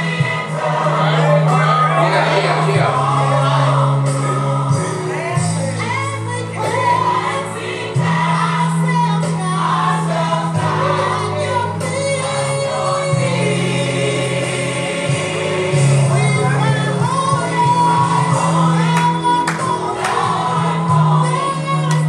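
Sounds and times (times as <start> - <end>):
choir singing gospel music: 0.0 - 22.0.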